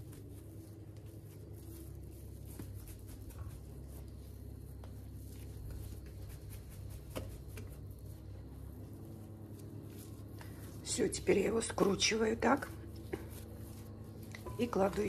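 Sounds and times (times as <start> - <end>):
hands kneading sticky dough: 0.0 - 15.0
low steady hum: 0.0 - 15.0.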